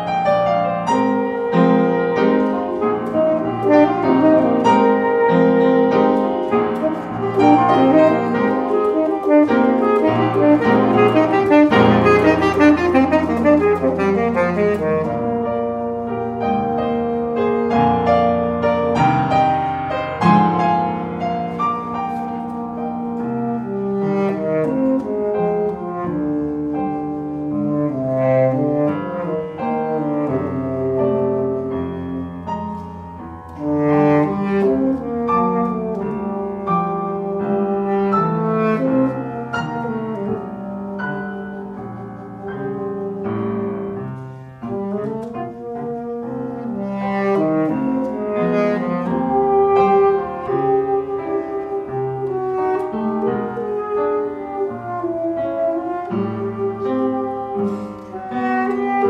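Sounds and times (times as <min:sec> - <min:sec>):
piano accompaniment: 0:00.0 - 0:59.0
saxophone solo: 0:00.1 - 0:59.0.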